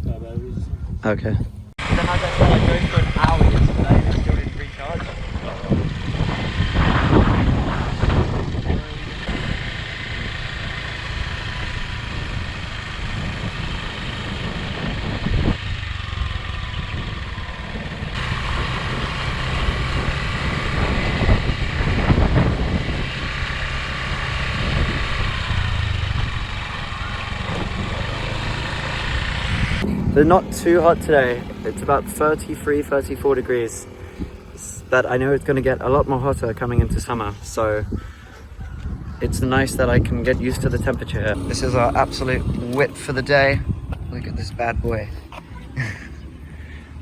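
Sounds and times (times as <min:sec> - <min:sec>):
small motorbike engine running: 0:01.8 - 0:39.0, 0:39.8 - 0:47.0.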